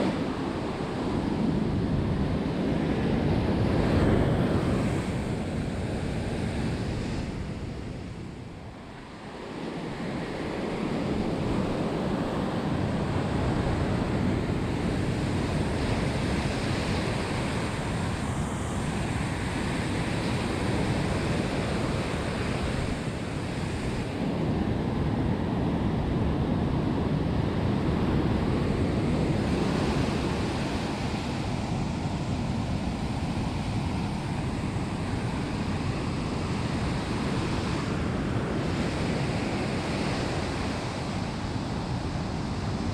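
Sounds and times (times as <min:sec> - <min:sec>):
ocean surf breaking on beach: 0:00.0 - 0:42.9
wind on microphone: 0:00.0 - 0:42.9.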